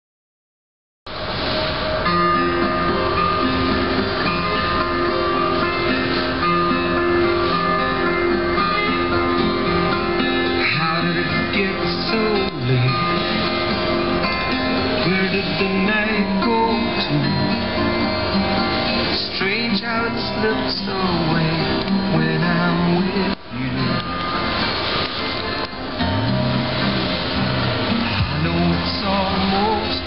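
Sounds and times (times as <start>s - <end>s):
acoustic guitar background music: 1.1s - 30.0s.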